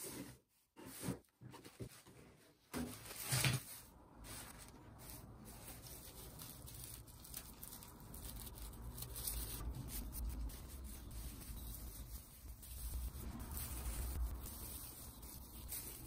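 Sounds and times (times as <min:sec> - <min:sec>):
plastic needles rustling: 0:03.0 - 0:16.0.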